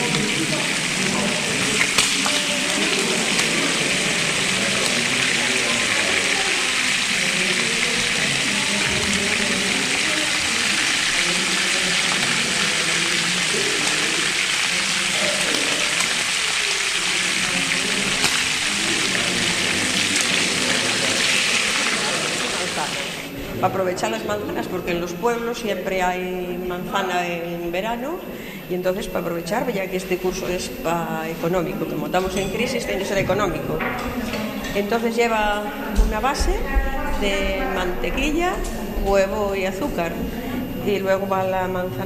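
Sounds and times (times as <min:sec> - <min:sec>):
faint murmuring voices: 0:00.0 - 0:42.0
loud steady hiss: 0:00.0 - 0:42.0.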